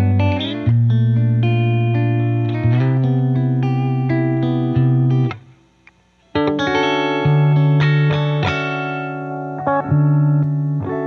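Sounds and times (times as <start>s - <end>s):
electric guitar notes and chords: 0.0s - 5.6s, 6.2s - 11.0s.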